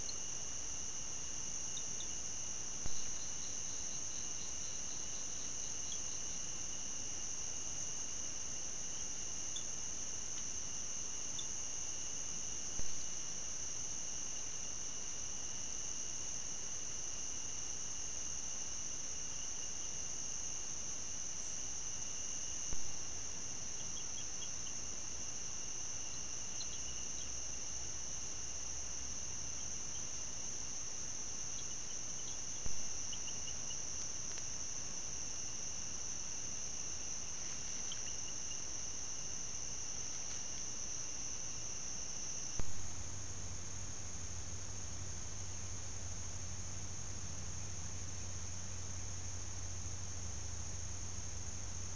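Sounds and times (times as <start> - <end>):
light hiss: 0.0 - 51.9
night insects chorus: 0.0 - 51.9.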